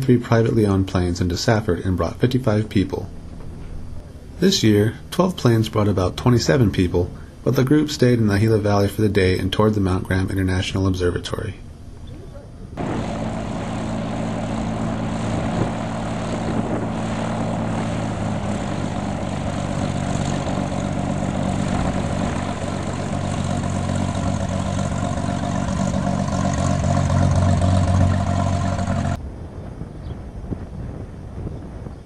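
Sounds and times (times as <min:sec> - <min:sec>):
propeller plane engine droning: 0:00.0 - 0:29.4.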